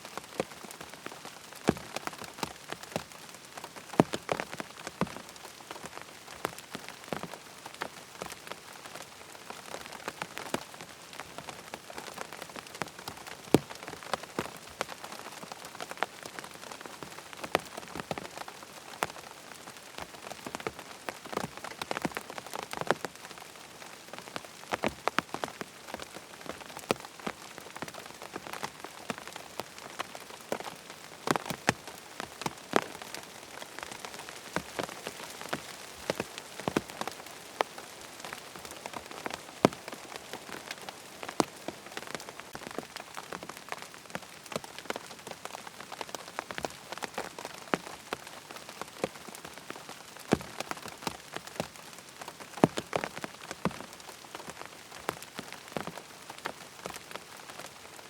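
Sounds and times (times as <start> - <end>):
rain pattering on tent fabric: 0.0 - 58.0.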